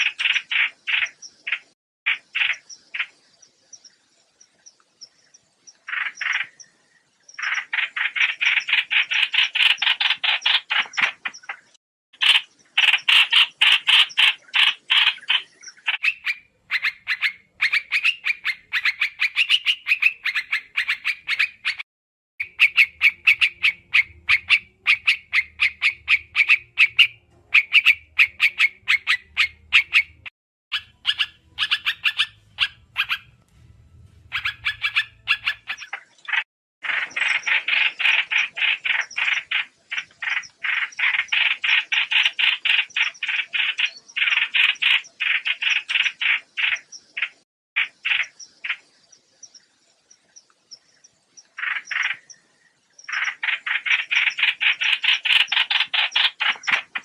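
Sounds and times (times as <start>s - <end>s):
bird chattering calls: 0.0s - 3.2s, 5.8s - 6.7s, 7.4s - 21.8s, 22.4s - 33.4s, 34.2s - 48.9s, 51.5s - 52.4s, 53.1s - 57.0s.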